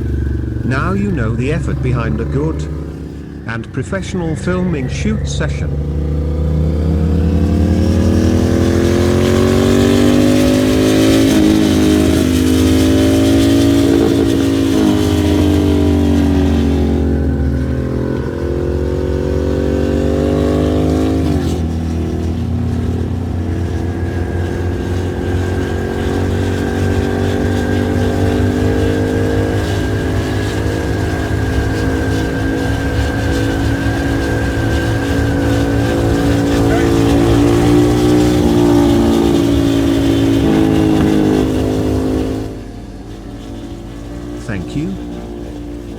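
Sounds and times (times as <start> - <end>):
constant low drone: 0.0 - 45.9
motorcycle engine running under load: 0.0 - 45.9.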